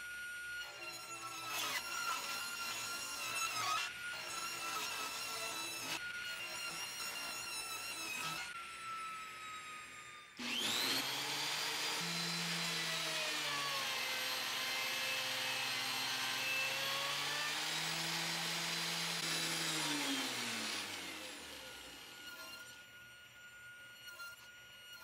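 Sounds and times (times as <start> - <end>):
woodworking machine cutting: 0.0 - 25.0.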